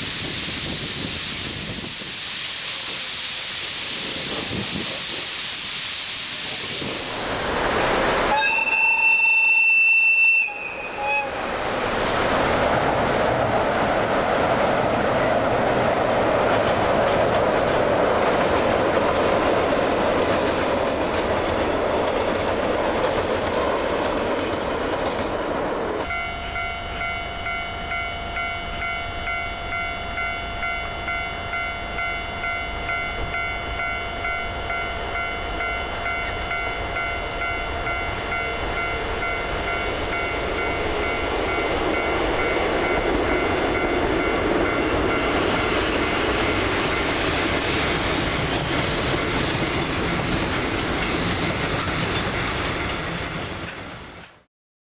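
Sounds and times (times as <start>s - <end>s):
diesel train approaching: 0.0s - 54.5s
train crossing steel bridge: 0.0s - 54.5s.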